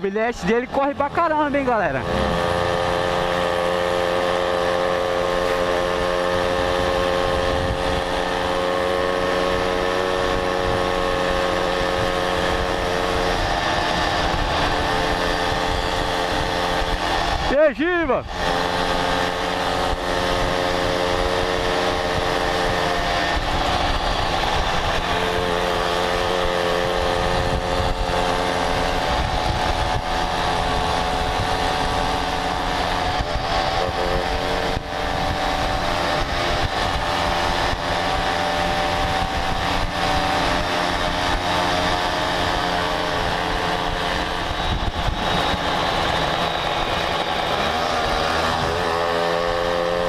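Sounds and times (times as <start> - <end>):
moped engine running: 0.0 - 50.0
wind on microphone: 2.3 - 17.5, 18.2 - 50.0.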